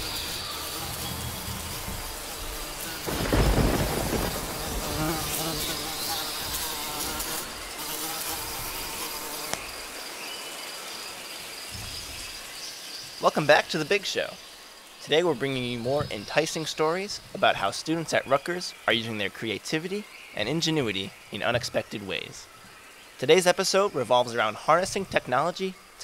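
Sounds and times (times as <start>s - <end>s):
steady hissing noise: 0.0s - 26.0s.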